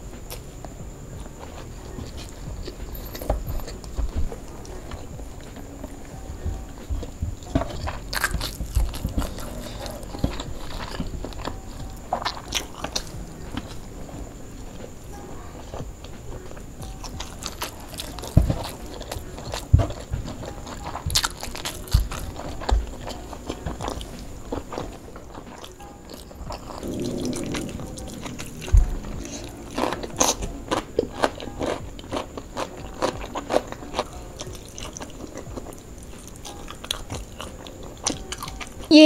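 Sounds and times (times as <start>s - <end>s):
chewing and crunching: 0.2s - 39.0s.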